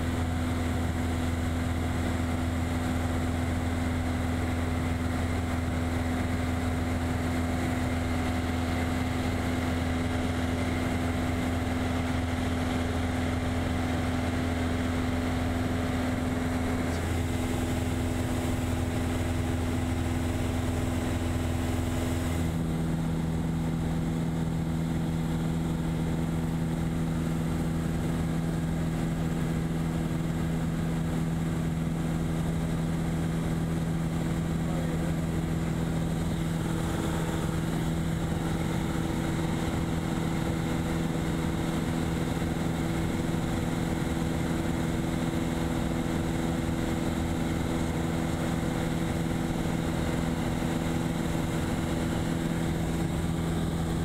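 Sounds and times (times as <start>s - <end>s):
light aircraft engine droning: 0.0s - 54.0s.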